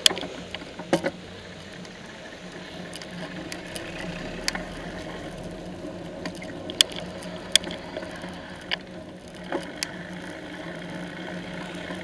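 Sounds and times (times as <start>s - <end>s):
bicycle on wet road: 0.0s - 12.0s
steady low hum: 0.3s - 12.0s
sharp irregular clicks: 1.8s - 12.0s.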